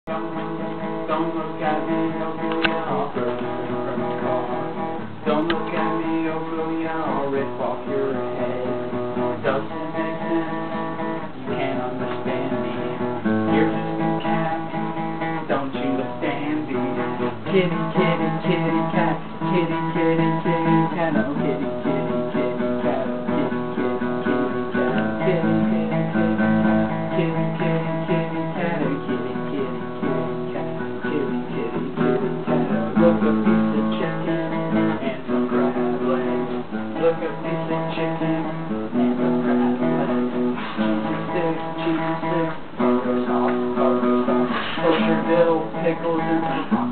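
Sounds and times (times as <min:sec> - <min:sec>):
guitar strumming chords: 0:00.0 - 0:46.9.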